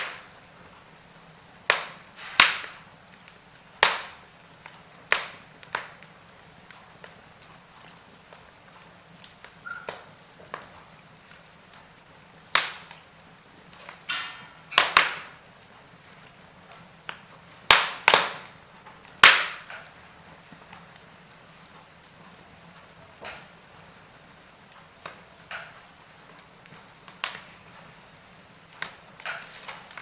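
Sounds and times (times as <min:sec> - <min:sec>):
low steady hiss: 0:00.0 - 0:30.0
sharp pops from fire: 0:00.0 - 0:30.0
wood fire crackling: 0:00.0 - 0:30.0.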